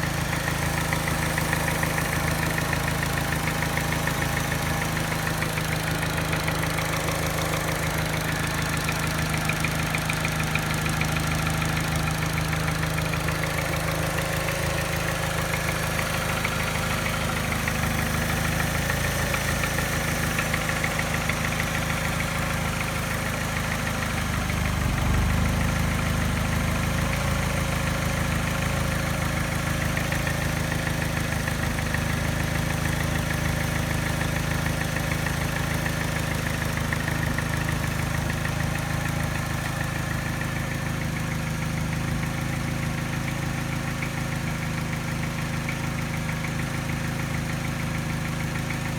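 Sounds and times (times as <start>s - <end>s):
car engine idling roughly: 0.0s - 48.9s.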